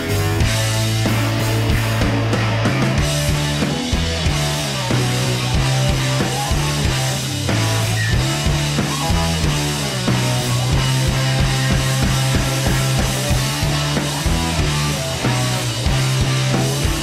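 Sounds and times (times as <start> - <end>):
bass line: 0.0 - 17.0
drums: 0.0 - 17.0
rock music: 0.0 - 17.0.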